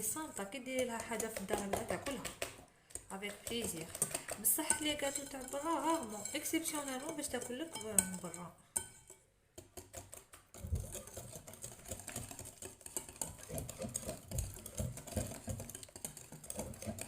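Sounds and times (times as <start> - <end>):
whisk clattering in bowl: 0.0 - 17.0.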